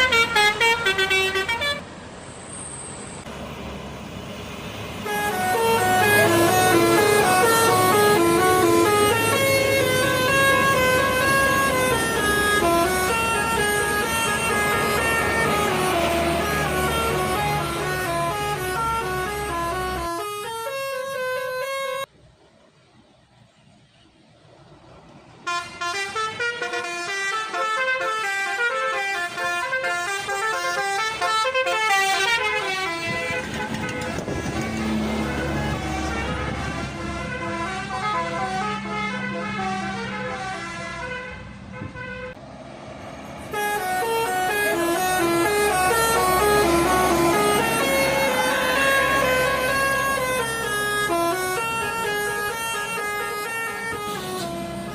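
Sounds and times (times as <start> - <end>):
bus horn playing a tune: 0.0 - 1.9, 5.0 - 22.1, 25.4 - 42.4, 43.4 - 54.9.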